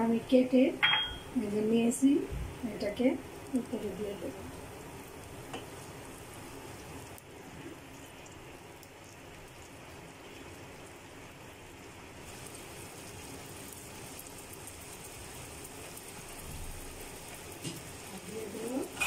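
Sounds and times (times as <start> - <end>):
broth simmering bubbling: 1.0 - 19.0.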